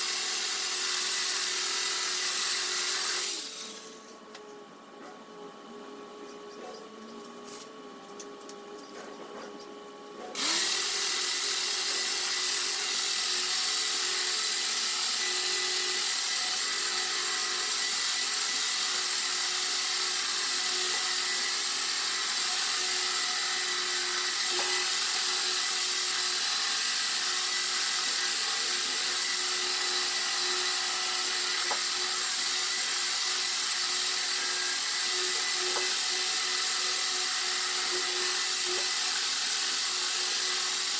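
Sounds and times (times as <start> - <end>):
power sander whirring: 0.0 - 4.4, 10.4 - 40.9.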